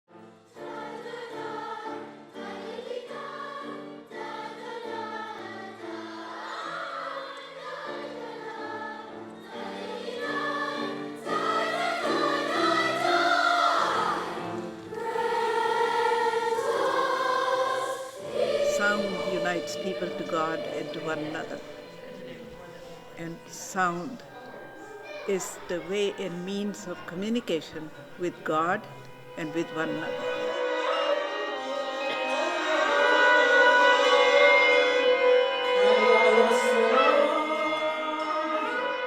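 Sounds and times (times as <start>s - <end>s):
choir singing sacred music: 0.2s - 39.0s.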